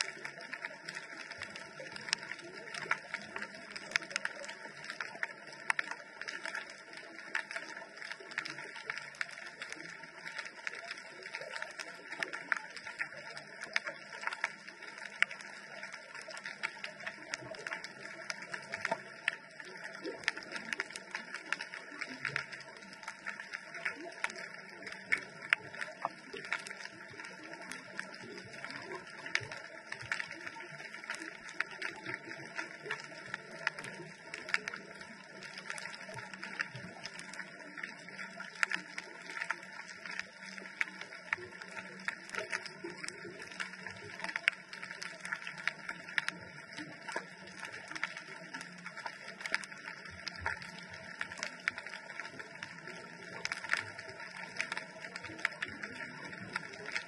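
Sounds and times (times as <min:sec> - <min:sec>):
underwater crackle of sharp clicks: 0:00.0 - 0:57.0.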